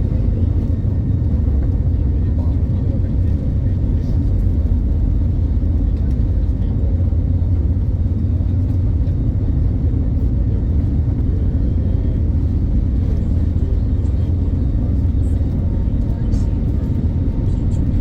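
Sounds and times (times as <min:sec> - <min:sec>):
jet engines and airflow in cabin: 0:00.0 - 0:18.0.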